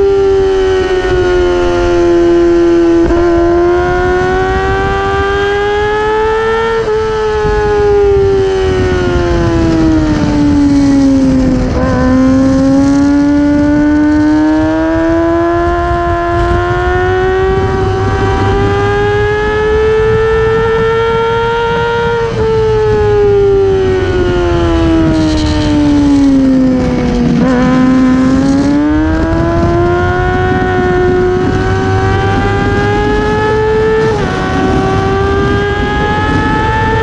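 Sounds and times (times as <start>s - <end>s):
racing motorcycle engine: 0.0s - 37.0s.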